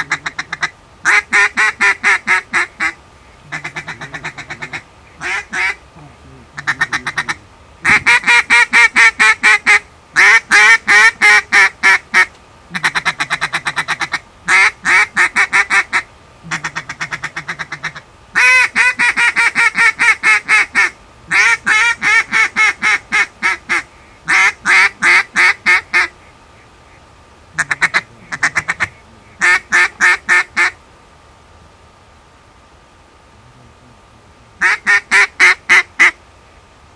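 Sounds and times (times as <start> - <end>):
duck call quacks: 0.0 - 5.8, 6.6 - 26.2, 27.6 - 30.8, 34.6 - 36.2.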